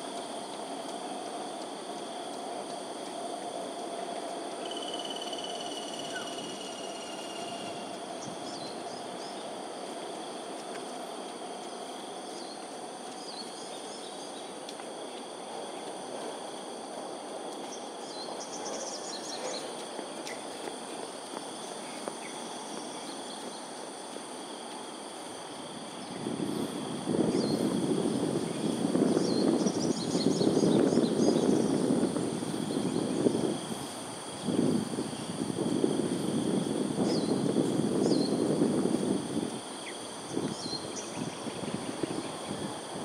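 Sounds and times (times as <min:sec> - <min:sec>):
background hum: 0:00.0 - 0:43.0
high-pitched insect chorus: 0:00.0 - 0:43.0.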